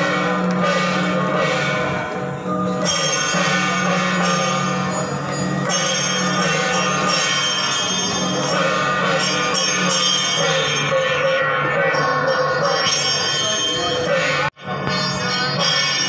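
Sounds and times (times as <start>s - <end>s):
bright jingling bells: 0.0s - 16.0s.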